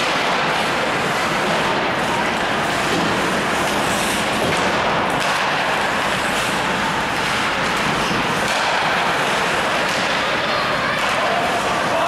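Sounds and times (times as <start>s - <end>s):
ice hockey game noise: 0.0s - 12.0s
skates on ice: 0.0s - 12.0s.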